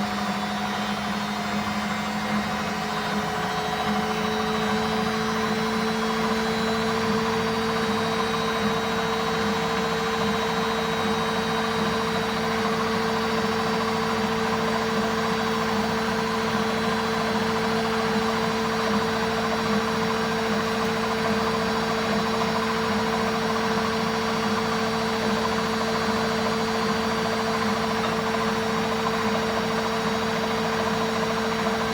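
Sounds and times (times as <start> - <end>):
washing machine spinning: 0.0 - 31.9.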